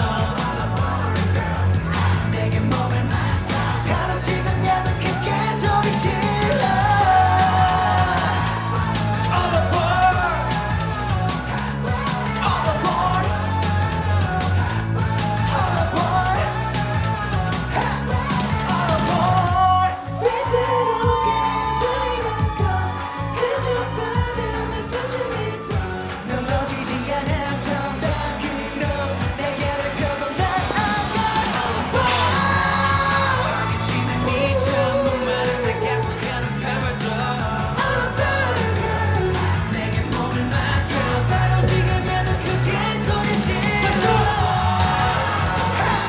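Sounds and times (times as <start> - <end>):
funky band track: 0.0 - 46.0
male vocals singing: 0.0 - 46.0
steady beat: 0.0 - 46.0.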